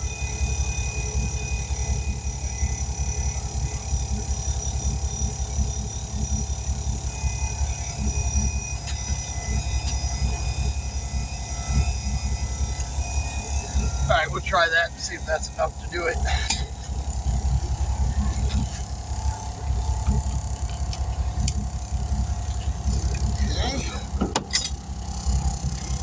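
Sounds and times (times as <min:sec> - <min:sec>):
air compressor running: 0:00.0 - 0:26.0.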